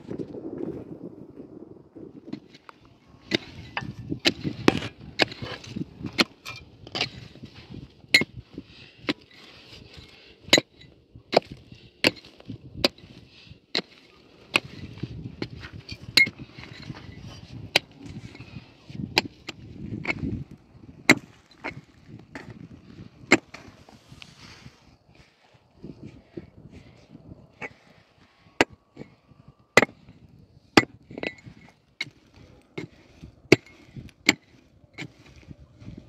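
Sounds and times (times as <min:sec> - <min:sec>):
scrape of earth and stones: 0:00.0 - 0:36.0
pick striking stony soil: 0:02.3 - 0:29.2, 0:29.8 - 0:36.0.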